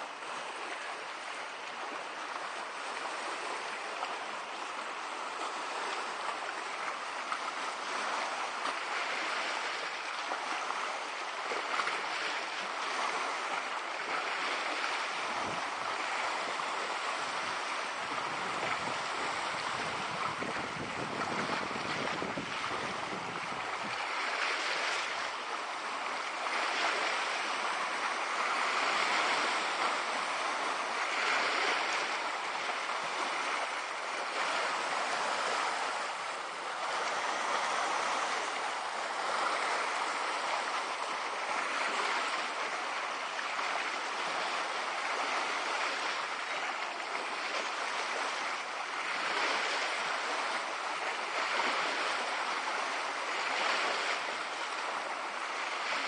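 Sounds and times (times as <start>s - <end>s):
waves lapping on rocky shore: 0.0s - 56.0s.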